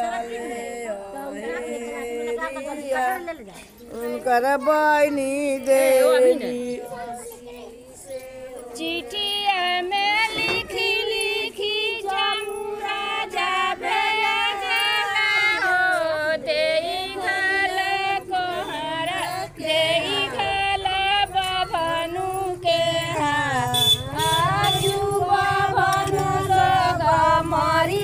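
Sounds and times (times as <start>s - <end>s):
women singing folk song: 0.0s - 28.0s.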